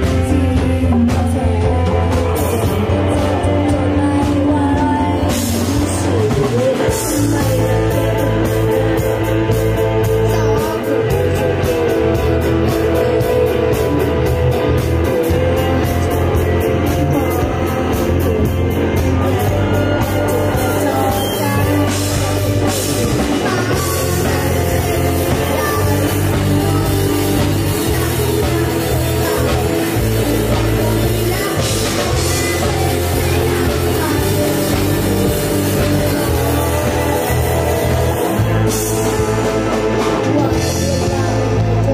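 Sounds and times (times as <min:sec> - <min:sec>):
boy singing lead: 0:00.0 - 0:41.9
drum kit: 0:00.0 - 0:41.9
electric guitar: 0:00.0 - 0:41.9.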